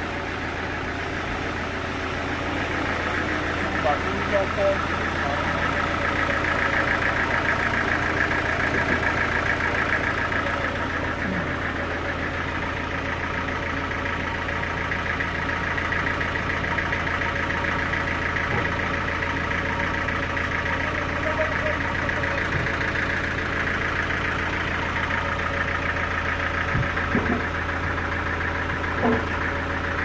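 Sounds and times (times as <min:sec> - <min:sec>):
sawmill engine idling: 0:00.0 - 0:30.0.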